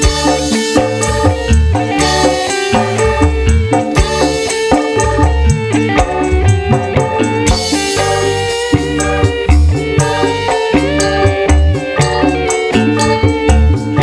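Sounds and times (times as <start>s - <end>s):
loud music with heavy bass: 0.0s - 14.0s.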